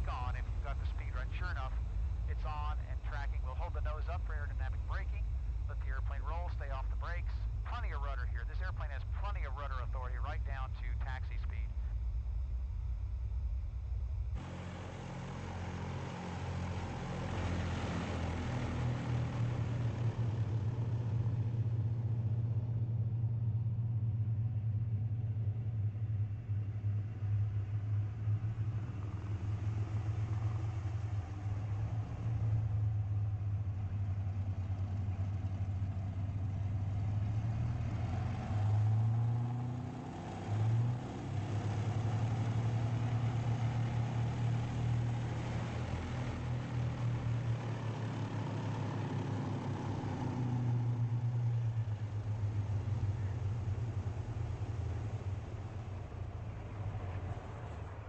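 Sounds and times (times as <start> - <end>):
aircraft engines droning: 0.0 - 58.0.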